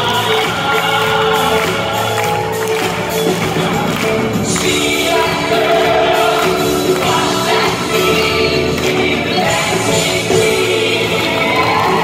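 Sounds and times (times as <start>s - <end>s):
children's choir singing: 0.0s - 12.0s
live band playing pop: 0.0s - 12.0s
male vocal group singing: 0.0s - 12.0s.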